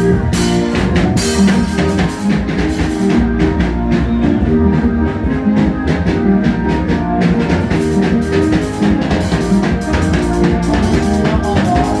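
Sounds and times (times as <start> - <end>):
band music: 0.0 - 12.0
cymbals: 0.0 - 12.0
drum kit beat: 0.0 - 12.0.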